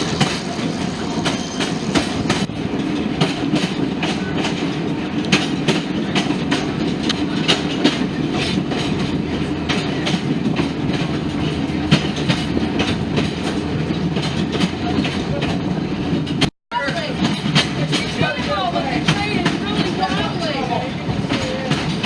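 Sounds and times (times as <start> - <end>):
train rumbling on track: 0.0 - 22.0
train wheels clacking: 0.0 - 22.0.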